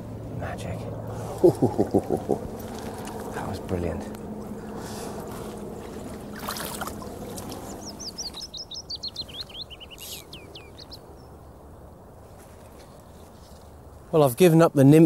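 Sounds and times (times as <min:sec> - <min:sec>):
songbird singing: 0:00.0 - 0:15.0
river flowing: 0:01.0 - 0:14.0.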